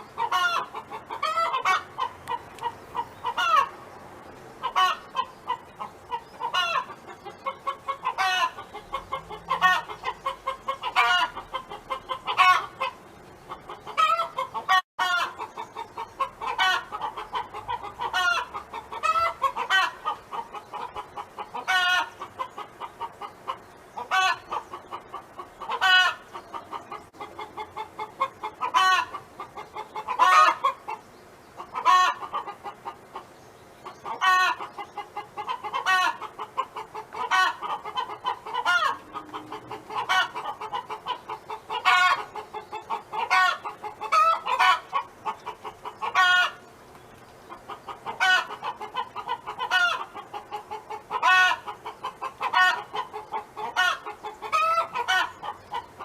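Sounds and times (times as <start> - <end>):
hen clucking: 0.0 - 3.8, 4.6 - 56.0.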